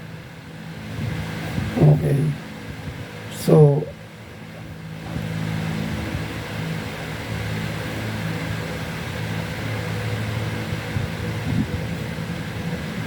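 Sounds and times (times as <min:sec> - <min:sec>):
low machine hum with hiss: 0:00.0 - 0:13.0.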